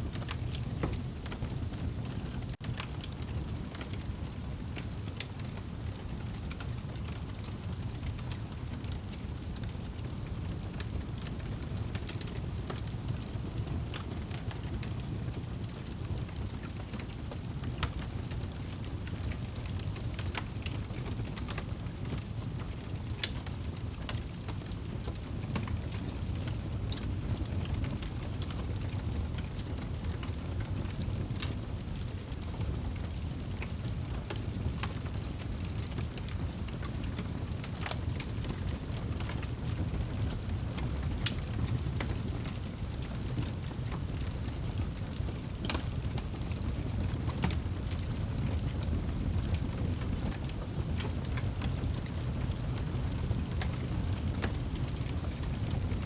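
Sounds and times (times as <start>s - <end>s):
fire crackling and popping: 0.0s - 56.0s
rain: 0.0s - 56.0s.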